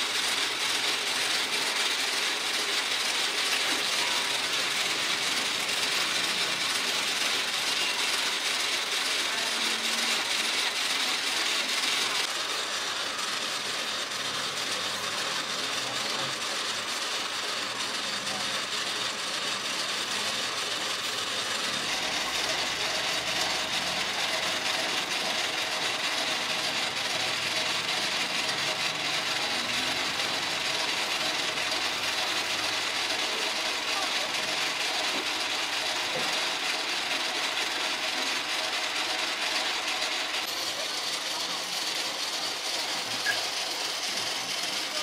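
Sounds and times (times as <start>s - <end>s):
busy street market noise: 0.0s - 45.0s.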